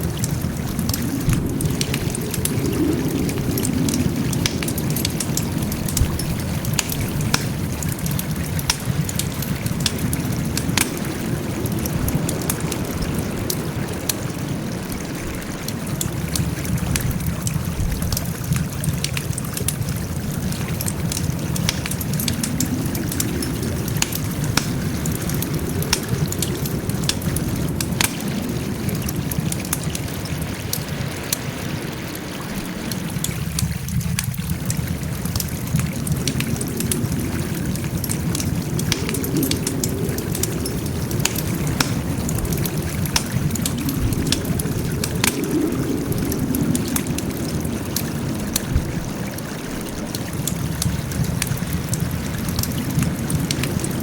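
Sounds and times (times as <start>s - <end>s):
low rush of flame: 0.0s - 54.0s
wood crackling and popping: 0.0s - 54.0s.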